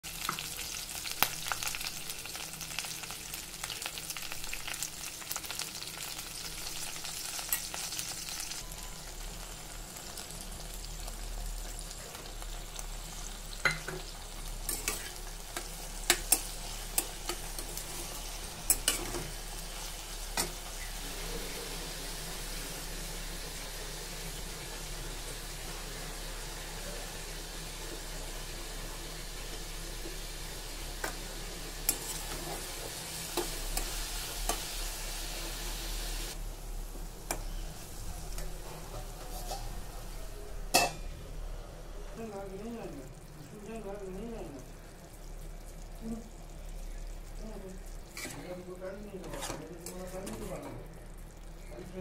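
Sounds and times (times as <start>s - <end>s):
okra sizzling in pan: 0.0s - 52.0s.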